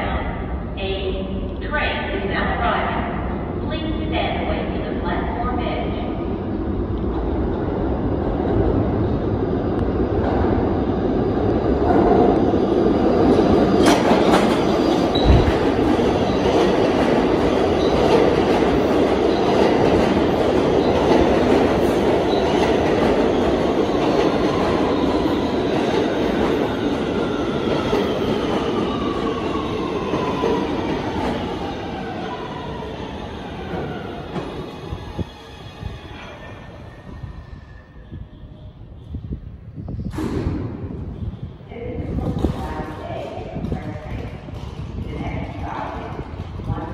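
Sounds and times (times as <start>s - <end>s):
subway train wheels rumbling: 0.0s - 46.9s.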